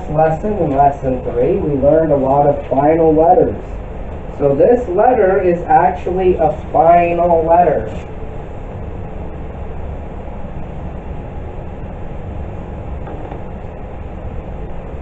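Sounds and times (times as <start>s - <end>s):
low rumbling room noise: 0.0s - 15.0s.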